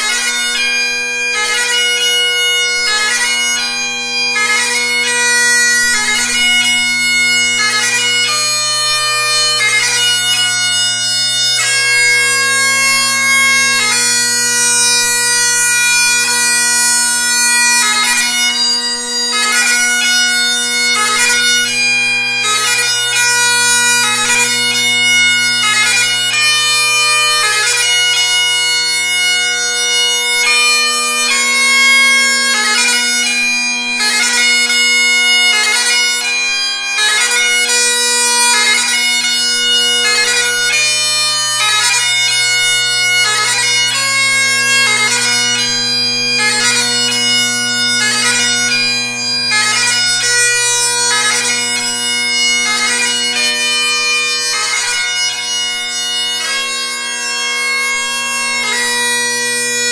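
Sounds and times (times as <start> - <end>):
bagpipe playing slow melody: 0.0 - 59.9.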